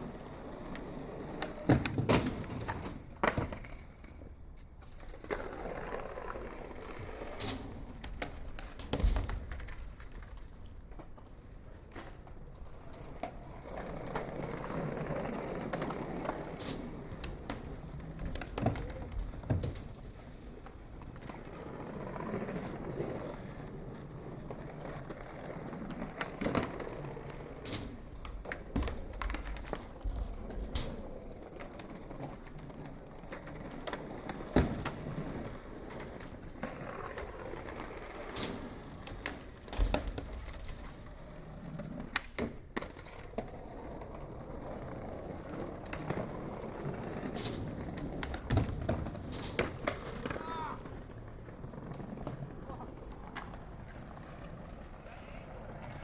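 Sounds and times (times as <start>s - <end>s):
skateboard clacks: 0.0s - 56.0s
skateboard wheels rolling on pavement: 0.0s - 56.0s.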